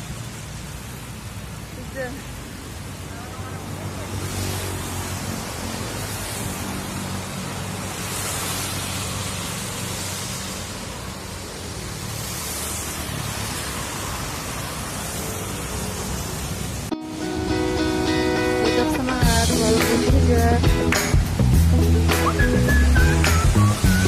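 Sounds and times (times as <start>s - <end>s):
rain hiss: 0.0s - 24.0s
vehicle engine humming: 0.0s - 24.0s.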